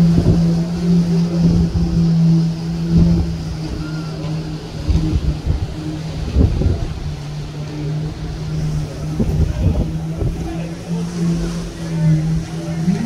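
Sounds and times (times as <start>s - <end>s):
ship's low mechanical hum: 0.0s - 13.0s
wind buffeting microphone: 0.0s - 13.0s.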